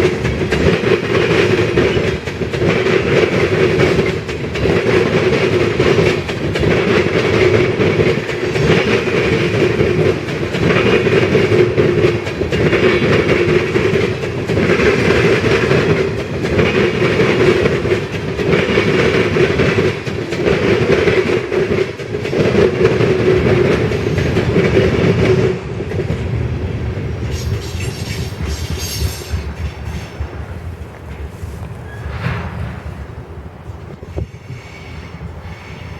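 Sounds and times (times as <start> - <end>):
train wheels clattering over rail joints: 0.0 - 33.1.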